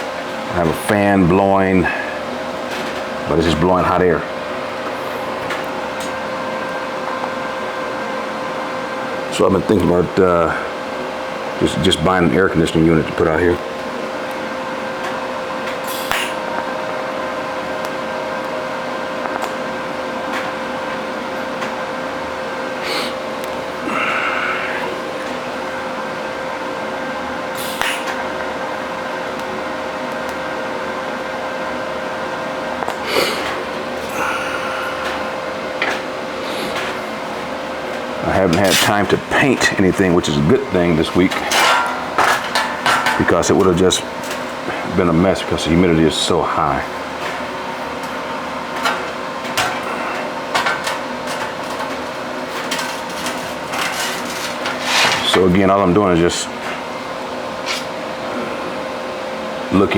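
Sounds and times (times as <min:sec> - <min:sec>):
shop fan whirring hum: 0:00.0 - 0:59.9.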